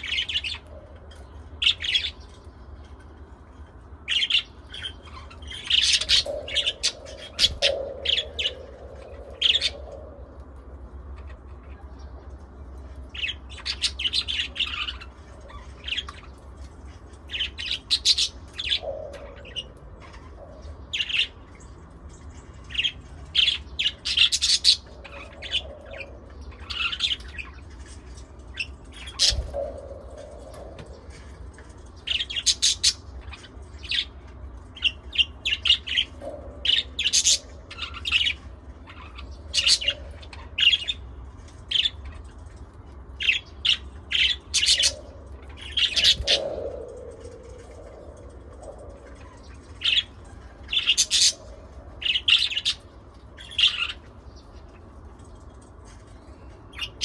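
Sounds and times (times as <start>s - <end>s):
birds chirping and squawking: 0.0s - 57.0s
steady low hum: 0.0s - 57.0s.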